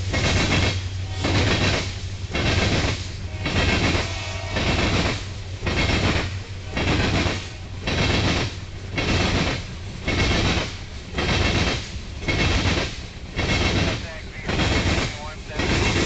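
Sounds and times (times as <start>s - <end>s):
train cars rolling on rails: 0.0s - 16.0s.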